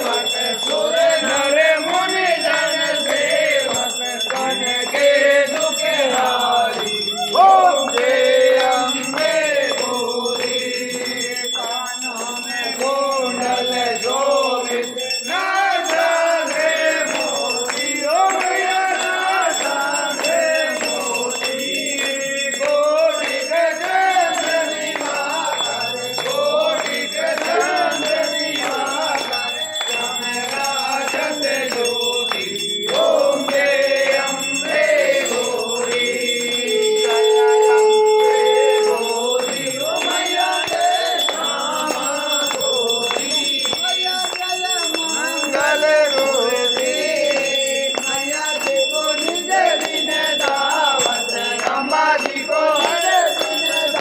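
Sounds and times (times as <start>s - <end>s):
bells ringing: 0.0s - 54.0s
men singing a hymn: 0.0s - 54.0s.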